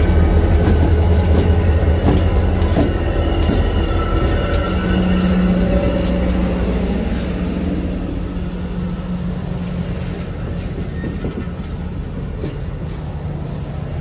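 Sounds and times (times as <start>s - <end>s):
diesel locomotive engine hum: 0.0s - 14.0s
wheels rumbling on rail: 0.0s - 14.0s.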